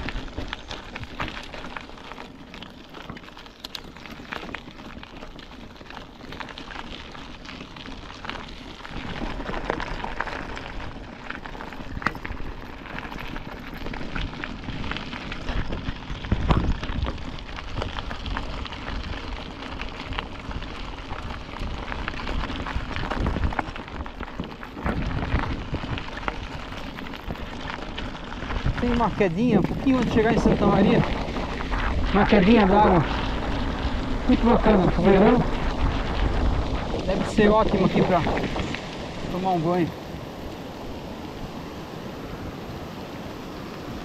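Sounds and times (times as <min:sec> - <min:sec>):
bike rattles: 0:00.0 - 0:44.0
tyres crackling on rough road: 0:00.0 - 0:44.0
wind buffeting microphone: 0:07.0 - 0:44.0.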